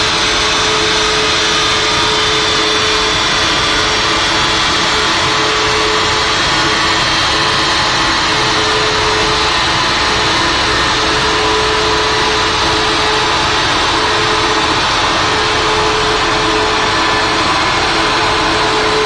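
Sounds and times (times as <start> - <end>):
car engine droning on dynamometer: 0.0 - 19.0.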